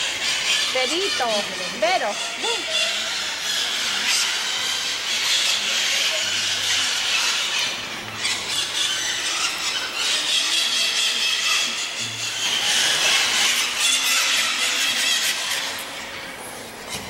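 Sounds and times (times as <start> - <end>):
birds screeching in chorus: 0.0 - 17.0.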